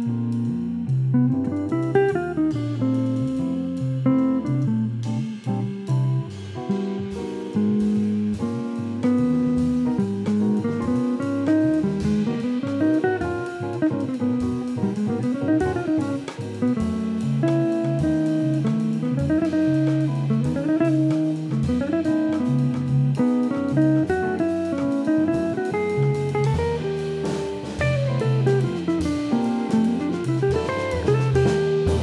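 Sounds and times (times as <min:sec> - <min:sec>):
guitar: 0:00.0 - 0:32.0
jazz band playing: 0:00.0 - 0:32.0.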